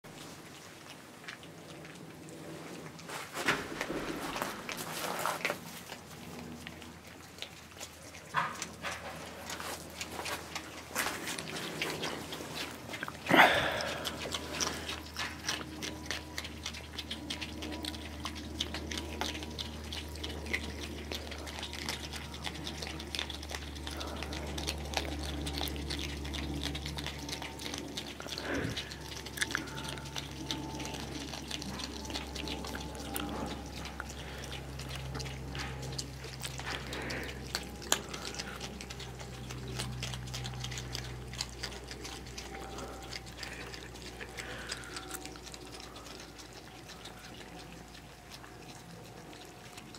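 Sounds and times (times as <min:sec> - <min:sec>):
animals chewing and smacking: 0:00.0 - 0:49.9
steady low hum: 0:00.0 - 0:49.9.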